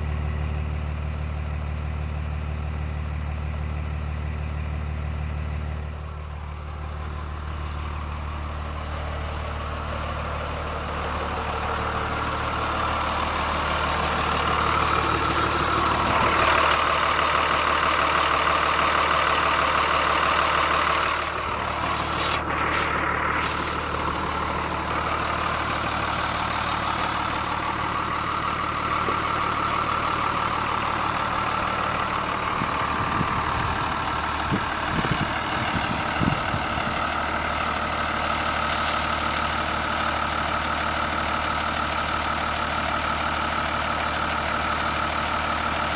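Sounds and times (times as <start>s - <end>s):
bus engine idling: 0.0s - 45.9s.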